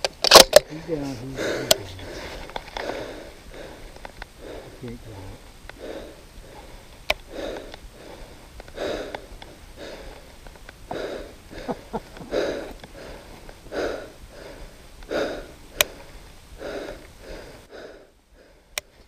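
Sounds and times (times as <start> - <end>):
man panting: 0.8 - 4.8, 5.8 - 19.0.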